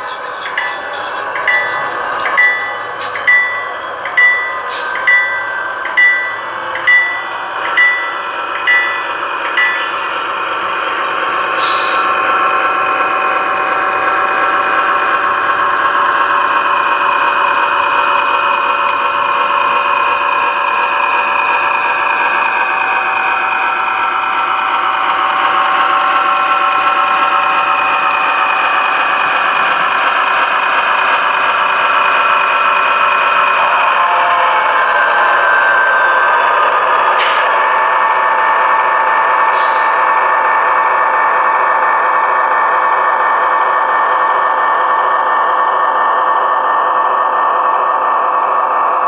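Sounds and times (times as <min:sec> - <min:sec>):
model train diesel engine: 0:00.0 - 0:49.0.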